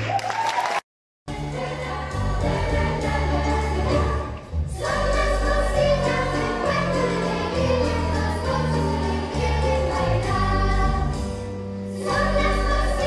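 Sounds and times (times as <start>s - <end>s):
band accompaniment: 1.3s - 13.0s
children's choir singing: 1.3s - 13.0s.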